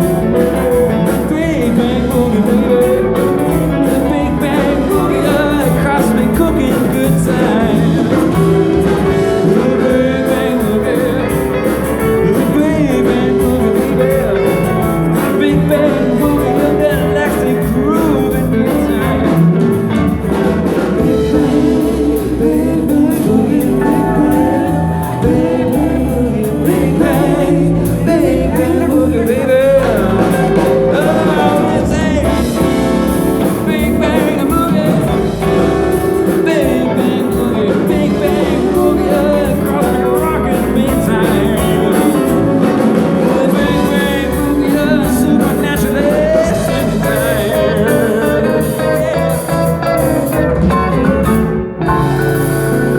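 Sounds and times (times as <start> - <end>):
live band playing: 0.0 - 52.9
person singing: 0.0 - 52.9.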